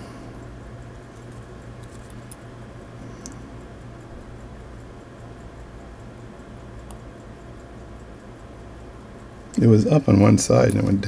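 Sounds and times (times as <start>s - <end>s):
steady low hum: 0.0s - 11.0s
faint regular ticking: 0.4s - 11.0s.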